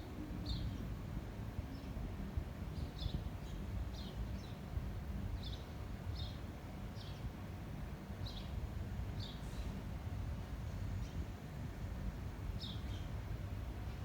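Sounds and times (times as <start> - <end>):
wind rumble on microphone: 0.0 - 6.4, 8.3 - 14.0.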